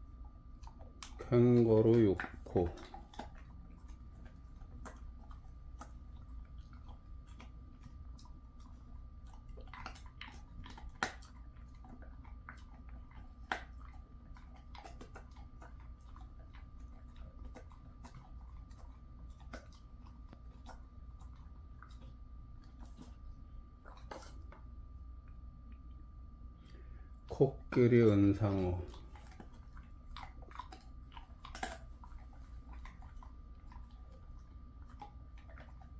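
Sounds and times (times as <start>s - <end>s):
dog chewing a treat: 0.0s - 35.9s.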